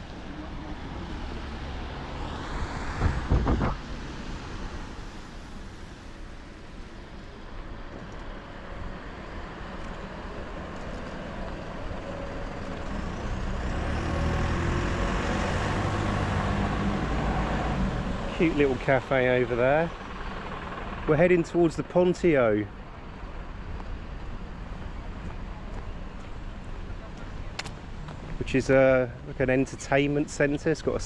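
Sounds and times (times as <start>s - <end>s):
heavy vehicle engine humming: 0.0s - 29.5s
traffic noise: 0.0s - 31.0s.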